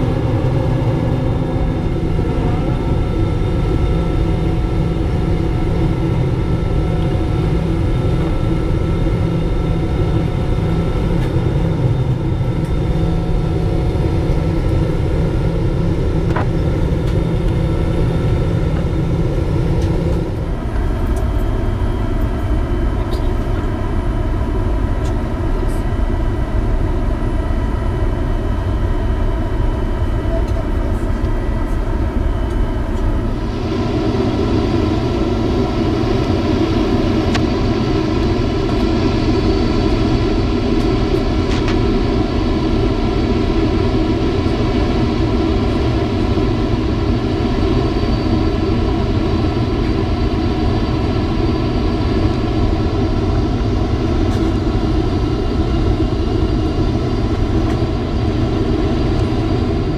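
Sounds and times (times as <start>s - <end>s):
airliner cabin engine and air noise: 0.0s - 59.9s
steady whining tones: 0.0s - 59.9s.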